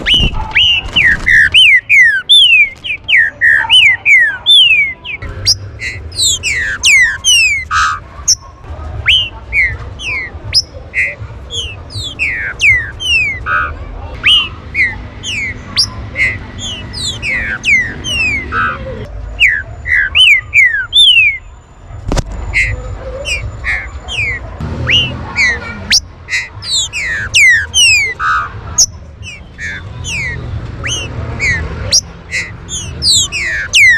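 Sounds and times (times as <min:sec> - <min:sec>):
bird whistling sharp notes: 0:00.0 - 0:18.8, 0:19.4 - 0:21.5, 0:22.5 - 0:33.9.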